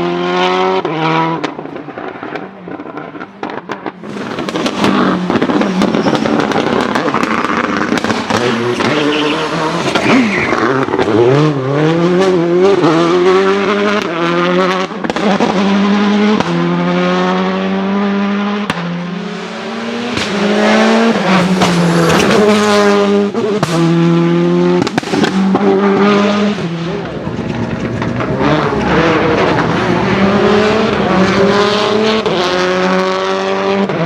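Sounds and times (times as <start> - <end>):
car engine revving hard: 0.0 - 34.0.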